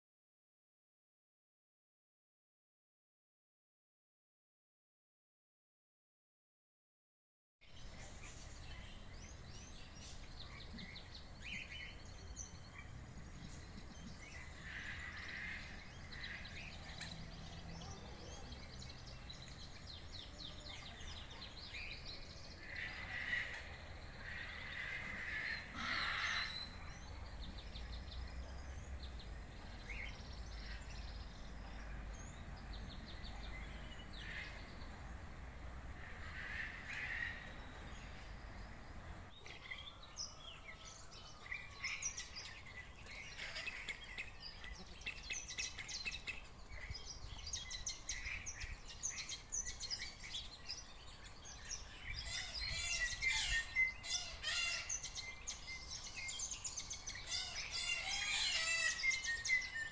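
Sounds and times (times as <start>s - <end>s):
birds calling and singing: 7.6s - 59.9s
low outdoor background noise: 7.6s - 59.9s.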